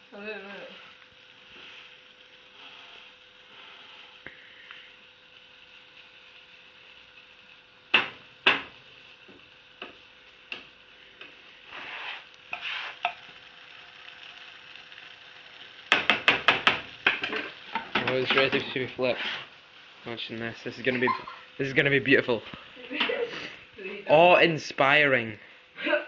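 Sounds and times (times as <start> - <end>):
batter sizzling in frying pan: 0.0 - 26.0.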